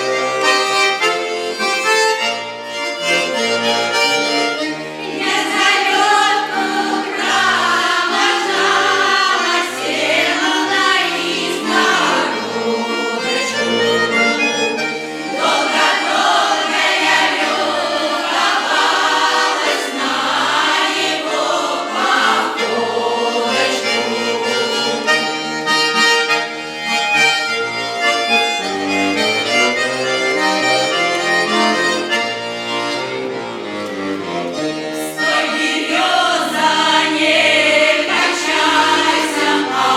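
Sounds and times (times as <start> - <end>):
folk choir singing: 0.0 - 27.2, 28.0 - 39.9
accordion playing chords and runs: 0.0 - 39.9.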